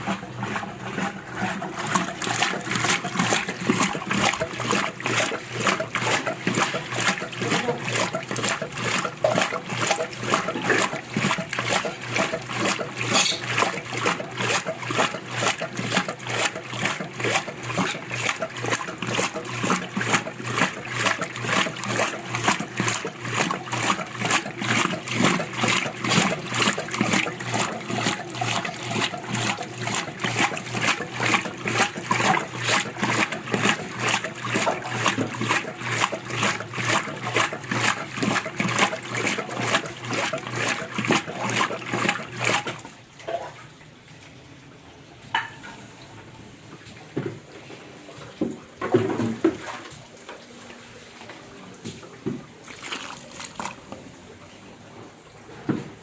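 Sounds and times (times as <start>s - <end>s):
washing machine water sloshing: 0.0s - 44.8s, 46.6s - 56.0s.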